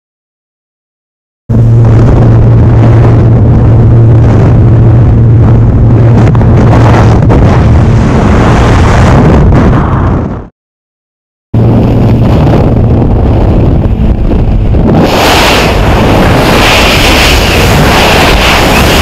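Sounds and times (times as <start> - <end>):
propeller engine drone: 1.5 - 10.5, 11.6 - 19.0
wind buffeting microphone: 1.5 - 10.5, 11.6 - 19.0.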